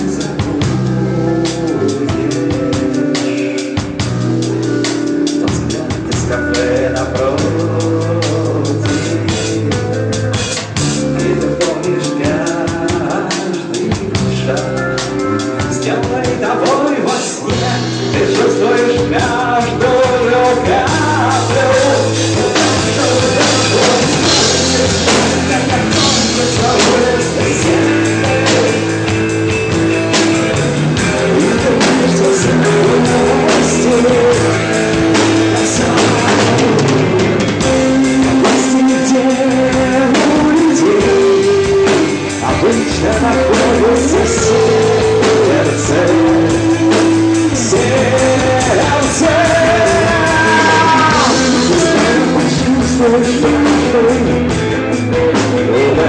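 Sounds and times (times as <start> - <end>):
rock band instrumental: 0.0 - 56.0.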